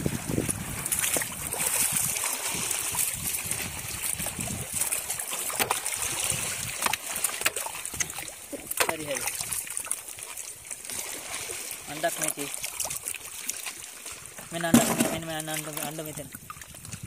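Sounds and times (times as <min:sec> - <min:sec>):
seawater washing among rocks: 0:00.0 - 0:17.0.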